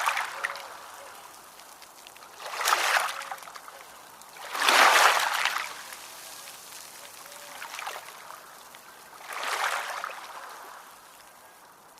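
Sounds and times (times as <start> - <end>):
small ocean waves washing in: 0.0 - 7.0, 7.6 - 11.4.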